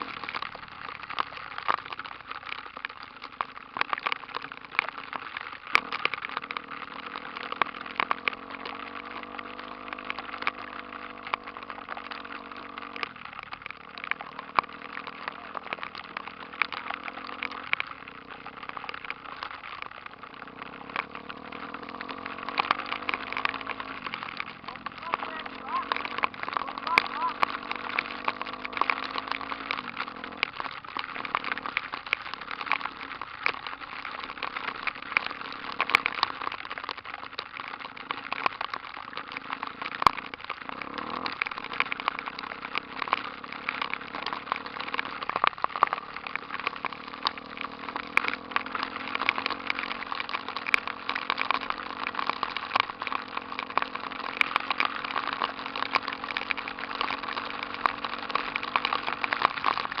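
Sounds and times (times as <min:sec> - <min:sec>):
crackly noise: 0:00.0 - 1:00.0
motorcycle engine running: 0:00.0 - 1:00.0.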